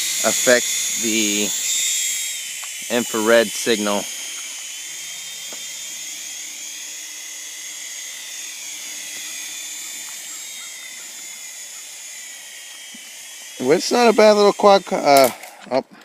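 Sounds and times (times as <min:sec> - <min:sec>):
toy helicopter motor whine: 0:00.0 - 0:16.0.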